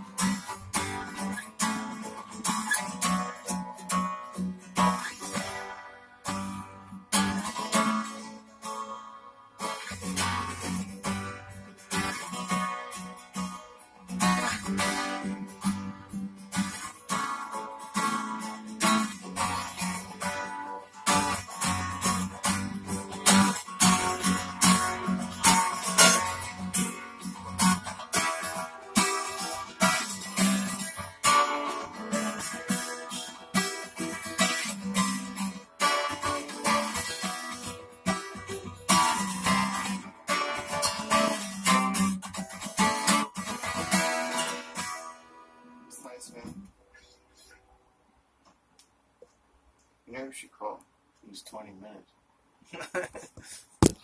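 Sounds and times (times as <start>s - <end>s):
acoustic guitar strumming: 0.0s - 46.7s.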